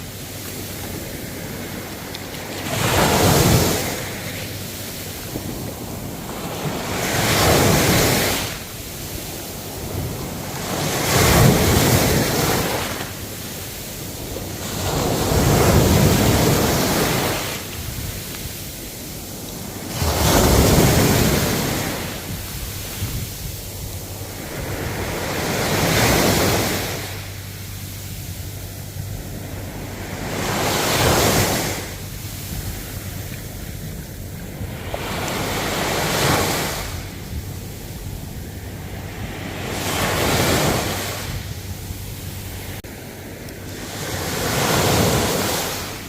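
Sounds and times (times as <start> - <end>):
ocean waves breaking: 0.0 - 46.0.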